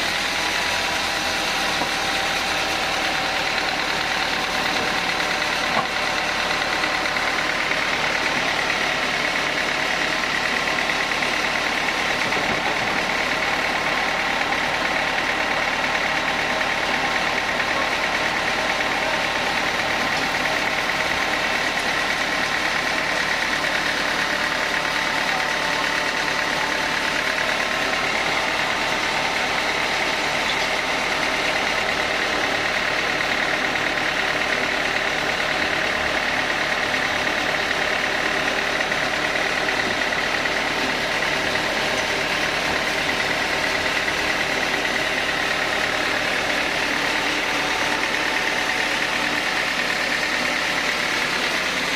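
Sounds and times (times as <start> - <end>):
sawmill saw whining: 0.0 - 51.9.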